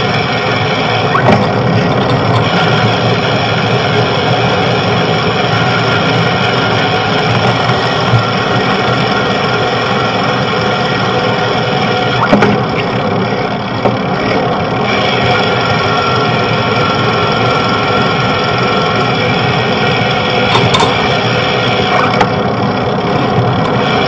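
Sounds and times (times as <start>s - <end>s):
road and traffic noise: 0.0s - 24.0s
vehicle engines running: 0.0s - 24.0s.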